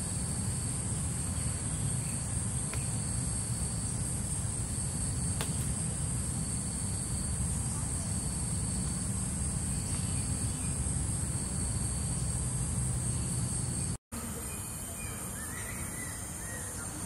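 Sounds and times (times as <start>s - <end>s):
low forest rumble: 0.0s - 14.0s
high-pitched insect chorus: 0.0s - 17.0s
lower insect drone: 0.0s - 17.0s.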